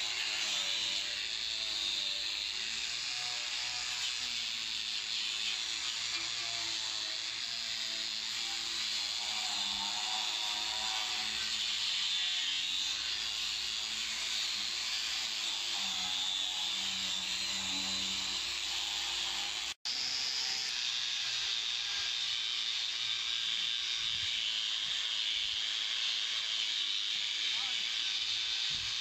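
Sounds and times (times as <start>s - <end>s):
angle grinder sanding metal: 0.0s - 29.0s.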